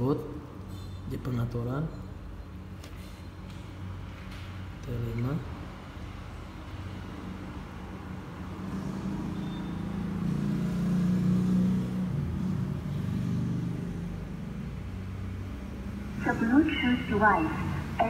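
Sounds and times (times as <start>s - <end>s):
passing road vehicle engine hum: 2.2s - 18.0s.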